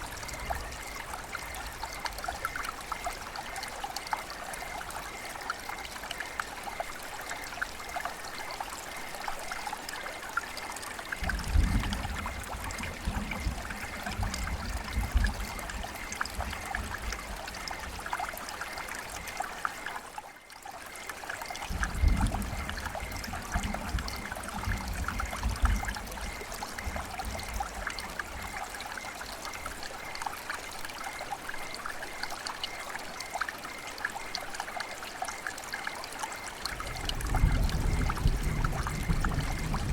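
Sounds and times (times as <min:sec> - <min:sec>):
river water babbling: 0:00.0 - 0:38.8.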